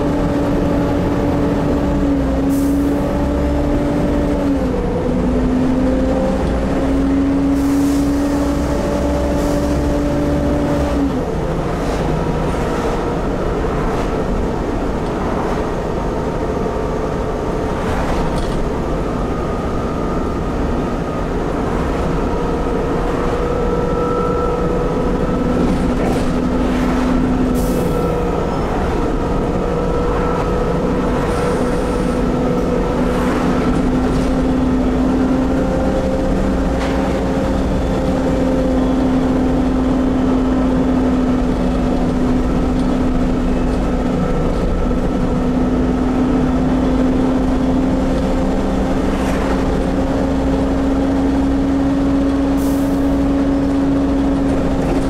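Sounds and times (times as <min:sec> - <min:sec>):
diesel bus engine rumble: 0:00.0 - 0:55.0
engine whine: 0:00.0 - 0:55.0
bus body rattles: 0:09.3 - 0:55.0.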